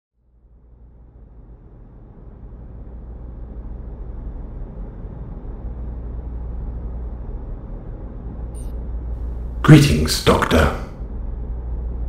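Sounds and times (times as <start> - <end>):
machine hum and rumble: 0.2 - 12.0.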